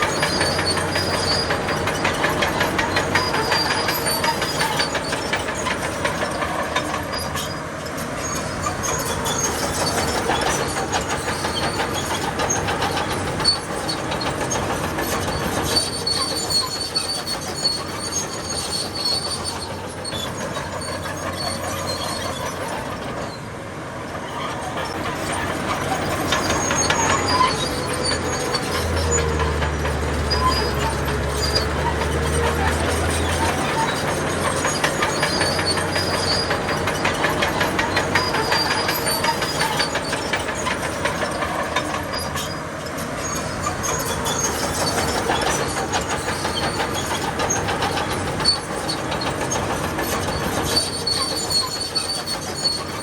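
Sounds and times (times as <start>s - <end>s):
bulldozer tracks clanking and squealing: 0.0s - 53.0s.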